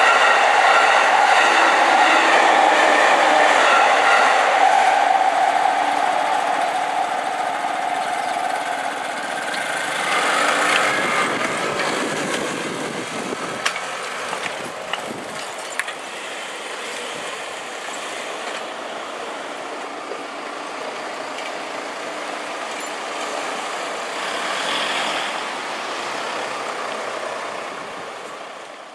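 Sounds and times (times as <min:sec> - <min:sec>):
cars passing: 0:00.0 - 0:28.9.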